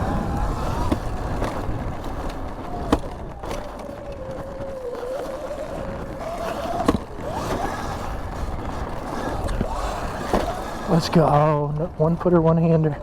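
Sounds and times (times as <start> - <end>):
electric motor whine: 0.0 - 12.4
wind rumble on microphone: 0.0 - 13.0.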